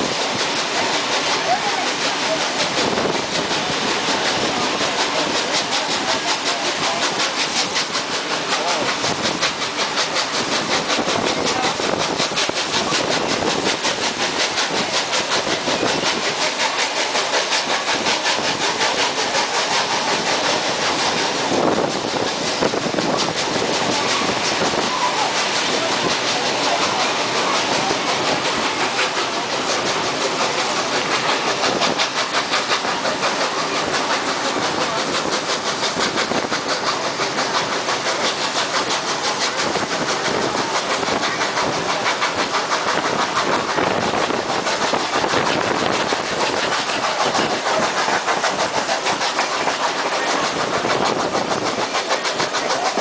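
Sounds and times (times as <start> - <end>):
train wheels rumbling and clattering: 0.0 - 53.0.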